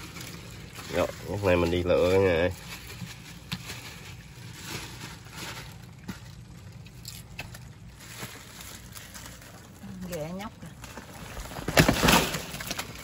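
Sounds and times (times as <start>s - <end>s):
wet rustling and squishing: 0.0s - 13.0s.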